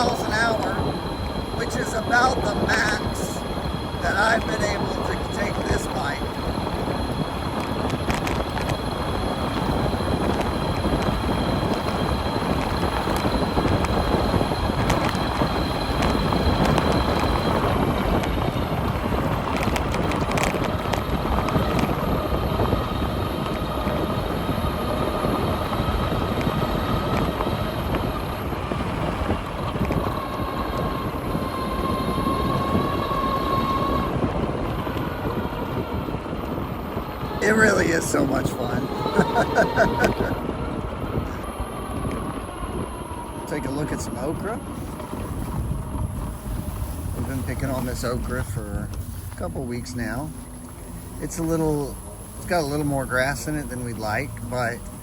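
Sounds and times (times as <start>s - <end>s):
electric motor whine: 0.0s - 55.0s
tyre noise on dirt road: 0.0s - 55.0s
wind rushing over microphone: 0.0s - 55.0s.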